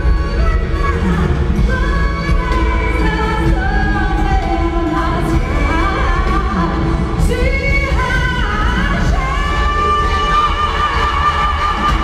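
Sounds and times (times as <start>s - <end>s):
loud band with heavy bass: 0.0s - 12.0s
woman singing: 0.0s - 12.0s.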